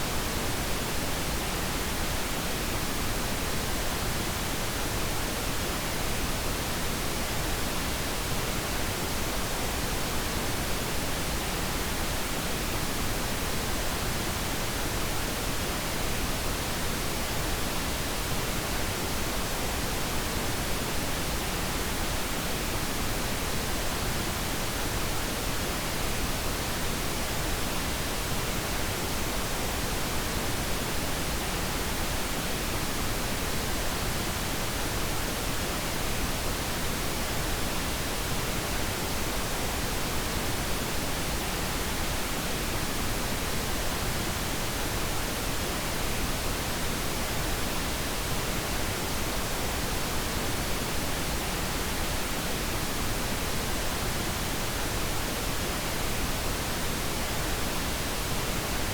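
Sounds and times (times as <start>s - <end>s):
steady pink noise hiss: 0.0s - 58.9s.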